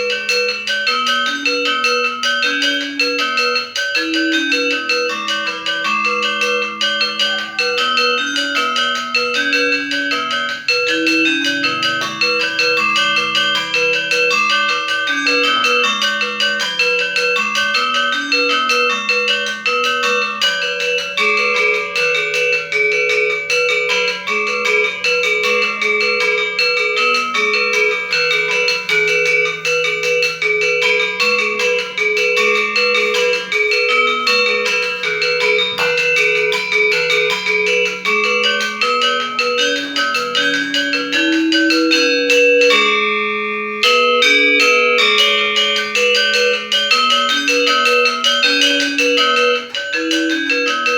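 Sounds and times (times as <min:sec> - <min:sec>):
metallophone played with mallets: 0:00.0 - 0:50.9.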